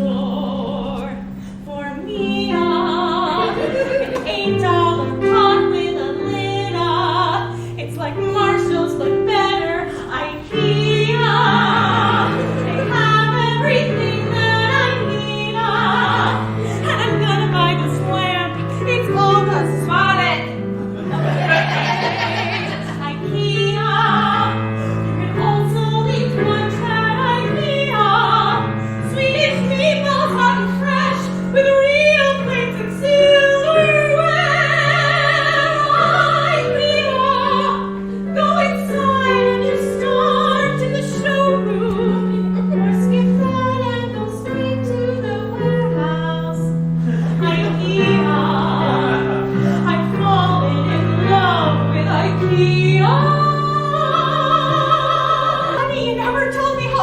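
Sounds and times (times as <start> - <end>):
sustained accompaniment chords: 0.0 - 57.0
woman singing opera: 0.0 - 57.0.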